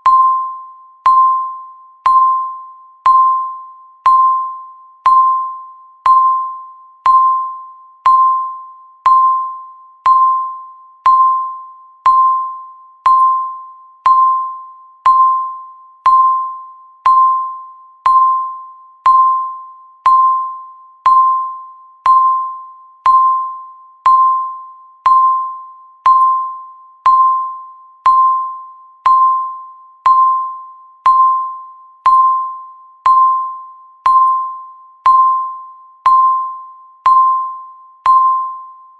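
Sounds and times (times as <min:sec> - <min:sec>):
timer tick with ping: 0:00.0 - 0:38.9.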